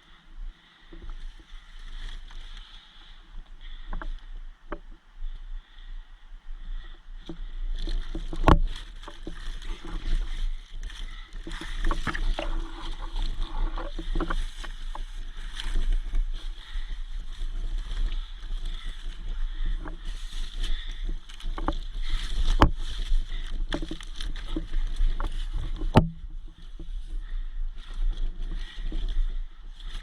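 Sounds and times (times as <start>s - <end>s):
rustling of movement: 0.0s - 30.0s.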